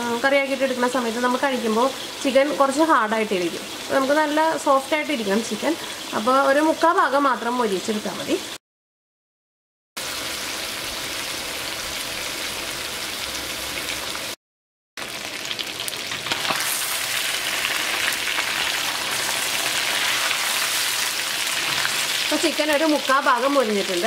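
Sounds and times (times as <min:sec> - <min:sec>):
chicken sizzling in hot oil: 0:00.0 - 0:08.6, 0:10.0 - 0:14.4, 0:15.0 - 0:24.0.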